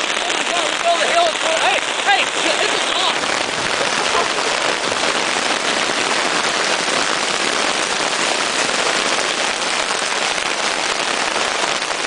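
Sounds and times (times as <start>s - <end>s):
hail and rain pelting down: 0.0s - 12.0s.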